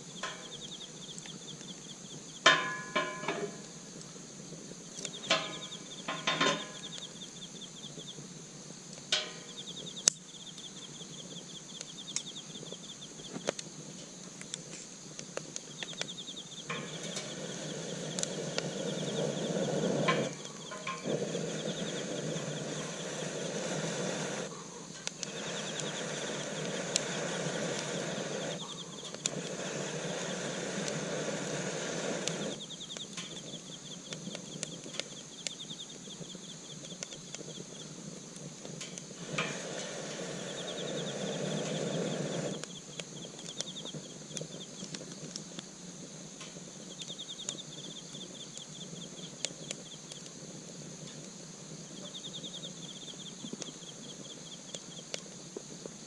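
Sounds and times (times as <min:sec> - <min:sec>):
insects trilling: 0:00.0 - 0:56.0
sharp crackles: 0:00.0 - 0:56.0
steady hiss: 0:00.0 - 0:56.0.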